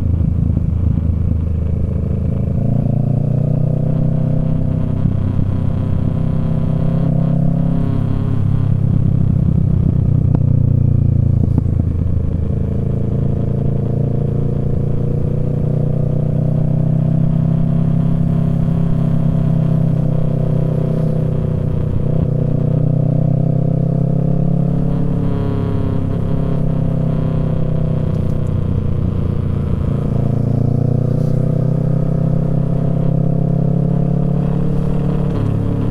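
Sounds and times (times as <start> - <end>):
motorcycle engine cruising: 0.0 - 35.9.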